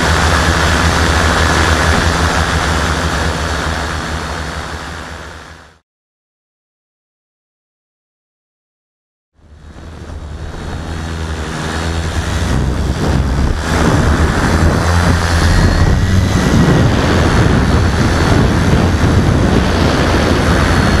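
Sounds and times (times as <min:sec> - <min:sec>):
quadcopter motors droning: 0:00.0 - 0:05.8, 0:09.4 - 0:21.0.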